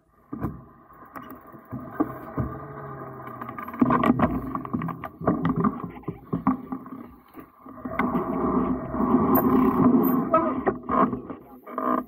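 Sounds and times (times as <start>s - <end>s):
bike rattling over bumps: 0.1s - 12.0s.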